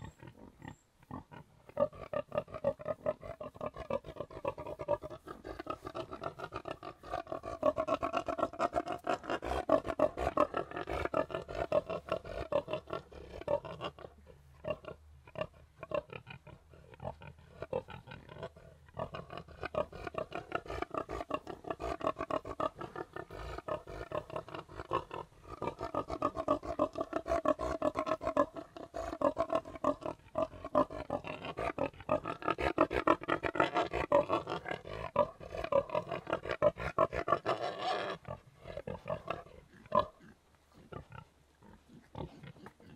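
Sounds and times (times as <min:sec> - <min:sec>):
pigs grunting: 0:00.0 - 0:42.9.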